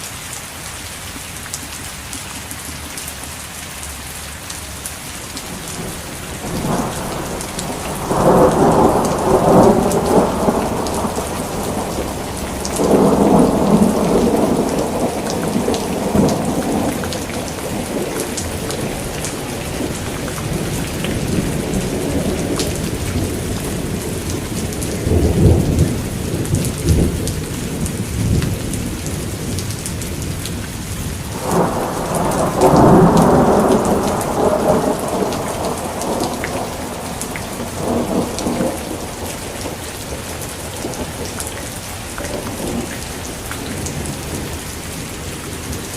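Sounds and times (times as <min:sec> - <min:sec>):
heavy rain falling: 0:00.0 - 0:45.9
thunder rumbling: 0:05.4 - 0:45.9.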